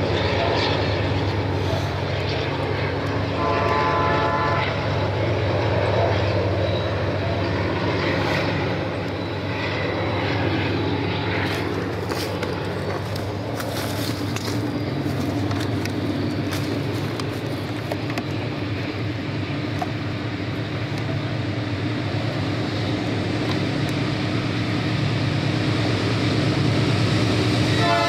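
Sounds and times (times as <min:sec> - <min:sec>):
locomotive engine drone: 0:00.0 - 0:28.0.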